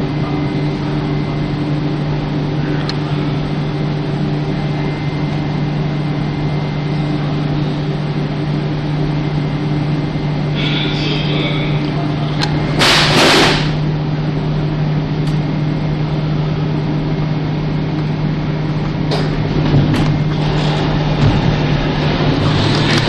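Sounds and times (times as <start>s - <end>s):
train interior hum: 0.0s - 23.0s.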